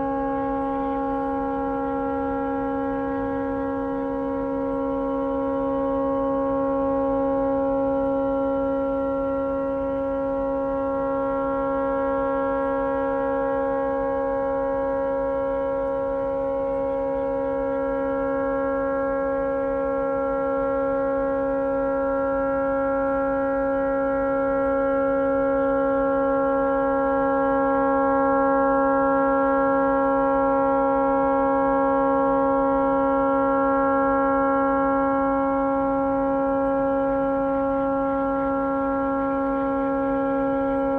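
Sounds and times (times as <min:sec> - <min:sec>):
continuous air horn chord: 0:00.0 - 0:40.9.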